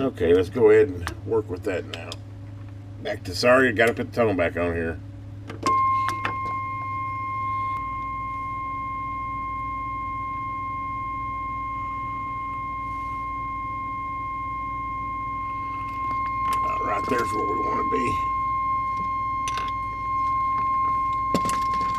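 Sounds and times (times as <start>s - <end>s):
low hum: 0.0s - 21.9s
steady audio test tone: 0.0s - 21.9s.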